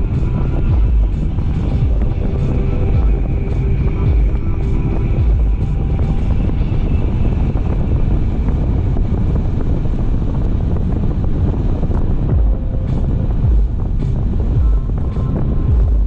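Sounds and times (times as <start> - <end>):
car road rumble: 0.0 - 16.0
wind buffeting microphone: 0.0 - 16.0.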